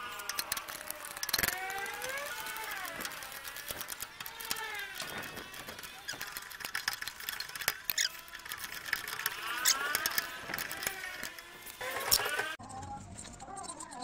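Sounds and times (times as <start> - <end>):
metal squeaking: 0.0 - 14.0
ratchet clicking: 0.0 - 14.0.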